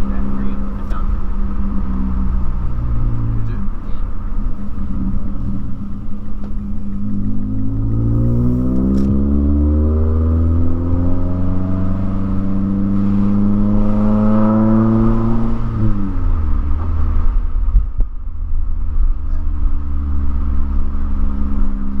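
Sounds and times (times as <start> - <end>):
car engine exhaust drone under load: 0.0 - 22.0.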